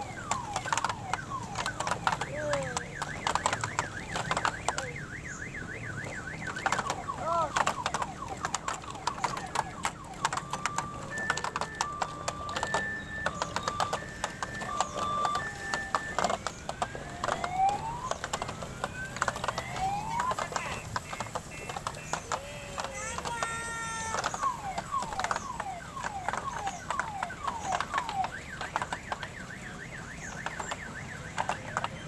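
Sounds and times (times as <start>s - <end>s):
electronic siren sound effects: 0.0s - 30.7s
sharp clicks: 0.3s - 32.0s.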